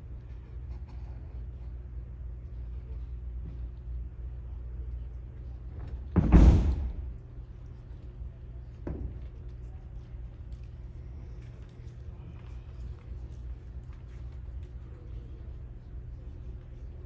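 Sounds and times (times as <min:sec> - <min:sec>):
low steady hall hum: 0:00.0 - 0:17.0.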